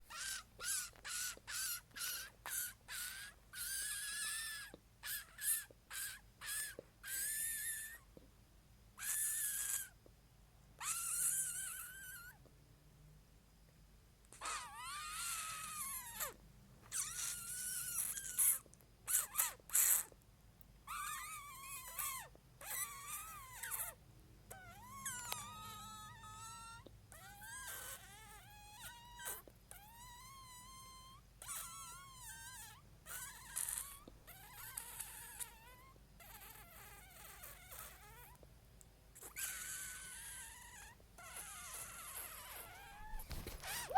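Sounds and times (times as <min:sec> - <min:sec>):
pet wailing: 0:00.1 - 0:08.0, 0:10.8 - 0:12.4, 0:14.4 - 0:20.1, 0:20.9 - 0:38.4, 0:39.2 - 0:43.9
sharp animal cries: 0:00.1 - 0:08.0, 0:09.0 - 0:09.9, 0:10.8 - 0:12.4, 0:14.4 - 0:20.1, 0:20.9 - 0:38.3, 0:39.2 - 0:43.9.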